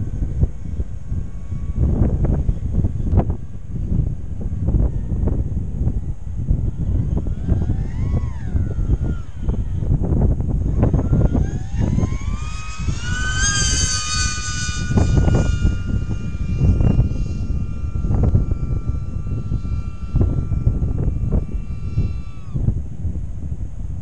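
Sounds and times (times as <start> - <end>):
rc plane motors whining: 0.0 - 24.0
wind buffeting microphone: 0.0 - 24.0.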